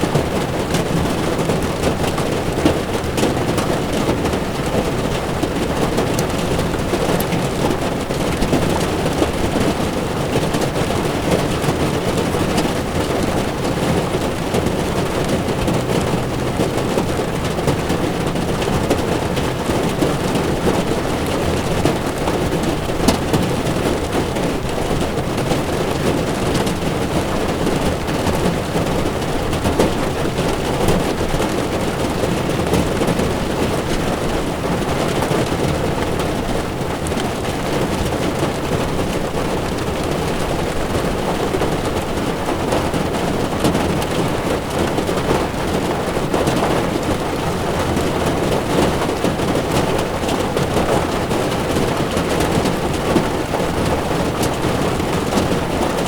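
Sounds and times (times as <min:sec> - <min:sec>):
heavy rain on car: 0:00.0 - 0:56.0
tyres on wet road: 0:00.0 - 0:56.0.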